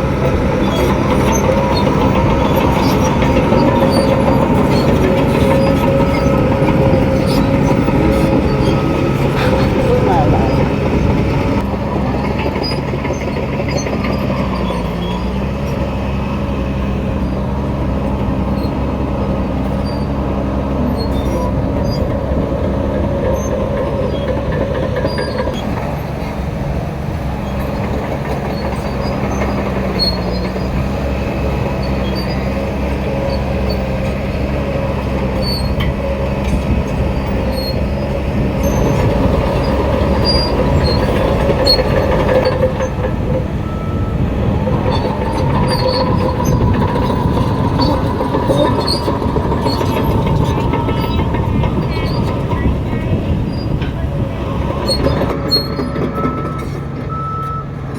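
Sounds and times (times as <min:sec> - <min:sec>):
bulldozer diesel engine running: 0:00.0 - 0:57.9
steel tracks squeaking: 0:00.0 - 0:57.9.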